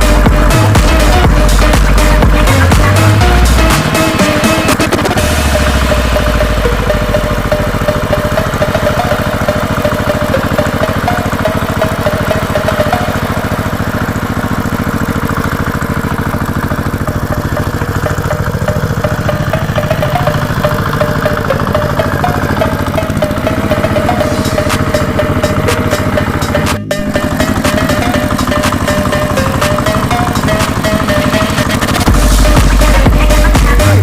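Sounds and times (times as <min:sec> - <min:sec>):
small tractor engine running: 0:00.0 - 0:34.0.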